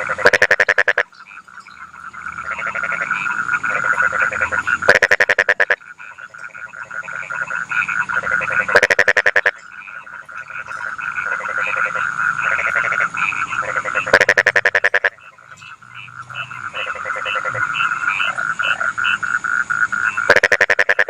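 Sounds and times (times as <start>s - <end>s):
chorus of frogs calling: 0.0s - 21.0s
frog rattling croaks: 0.0s - 21.0s.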